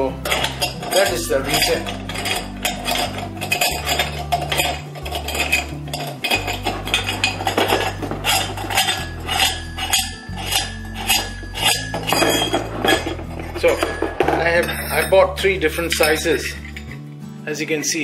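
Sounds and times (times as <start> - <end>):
metal grinder parts clinking: 0.0 - 17.1
background music with bass line: 0.0 - 18.0.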